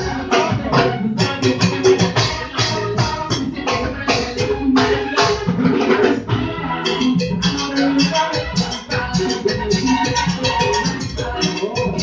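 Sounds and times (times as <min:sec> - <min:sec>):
live band instrumental music: 0:00.0 - 0:12.0.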